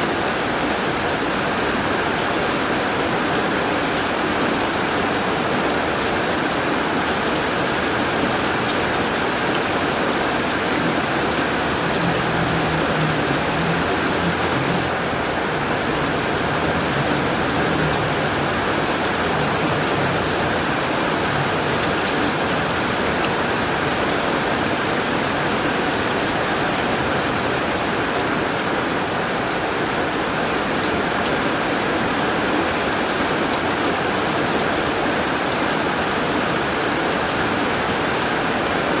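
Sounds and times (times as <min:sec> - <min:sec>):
heavy rain on a tin roof: 0:00.0 - 0:39.0.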